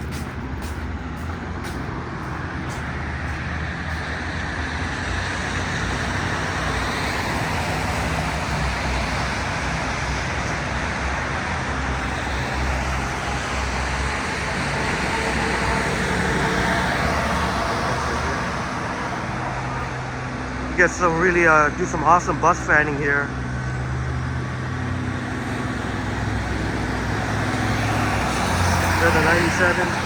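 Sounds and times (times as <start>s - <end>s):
tyres hissing on wet road: 0.0s - 30.0s.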